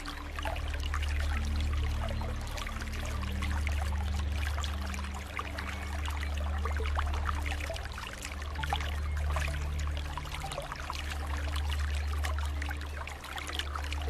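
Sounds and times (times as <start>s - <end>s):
aquarium water bubbling: 0.0s - 14.0s
low steady hum: 0.0s - 14.0s.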